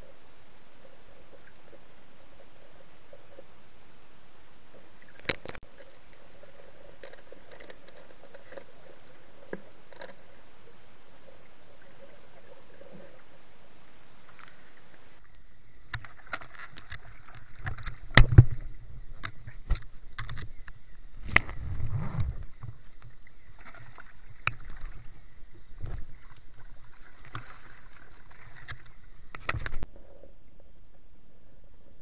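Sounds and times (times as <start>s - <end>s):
water moving underwater: 0.0s - 32.0s.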